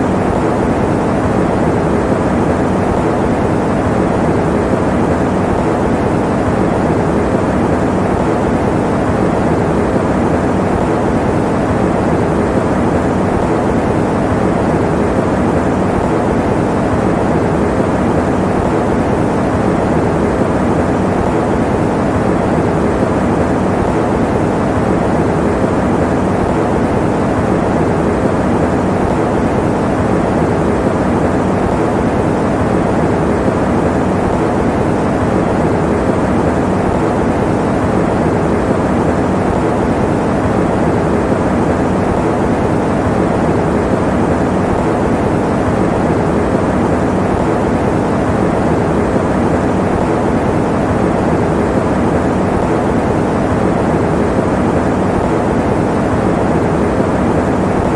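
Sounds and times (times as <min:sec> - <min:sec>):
electric fan running: 0:00.0 - 0:57.9.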